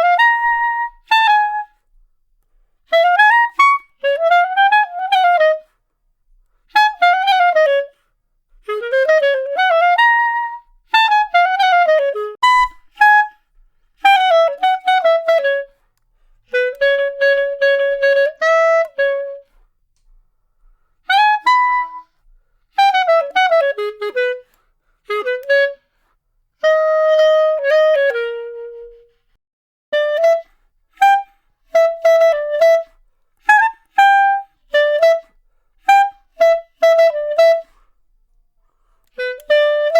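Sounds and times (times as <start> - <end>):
solo clarinet playing: 0.0 - 5.8, 6.4 - 39.9.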